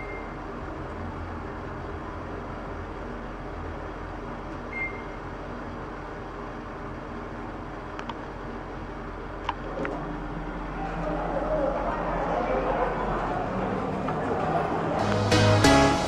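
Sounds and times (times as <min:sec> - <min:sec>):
elevator travelling hum: 0:00.0 - 0:16.0.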